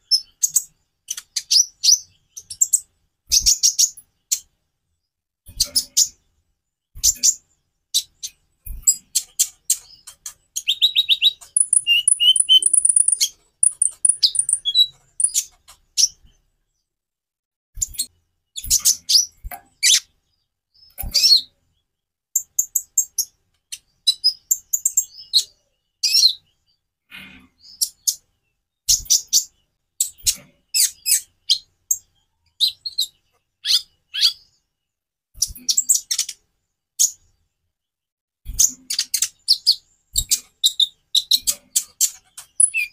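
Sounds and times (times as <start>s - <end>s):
sunbird chirping and trilling: 0.0s - 4.5s, 6.9s - 16.4s, 17.8s - 34.7s, 38.5s - 42.9s.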